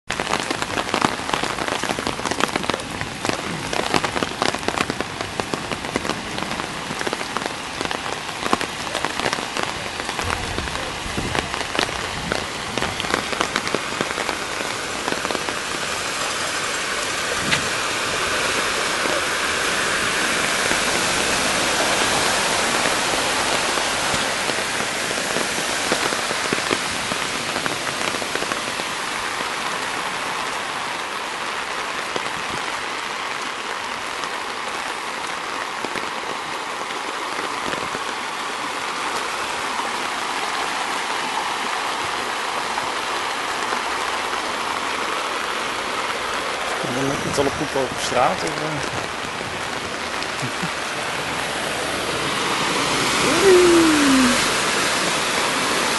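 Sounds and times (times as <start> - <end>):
heavy rain pouring: 0.0 - 55.9
rain splashing into water: 0.0 - 55.9.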